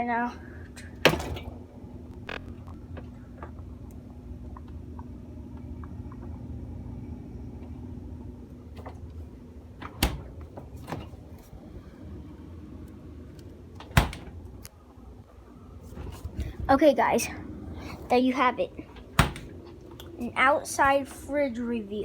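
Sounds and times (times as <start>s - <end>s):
refrigerator humming: 0.0s - 22.0s.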